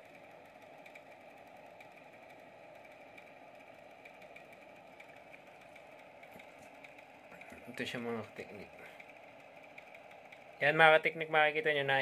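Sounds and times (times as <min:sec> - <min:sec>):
faint ticks: 0:00.0 - 0:10.8
cooling fan humming: 0:00.0 - 0:12.0.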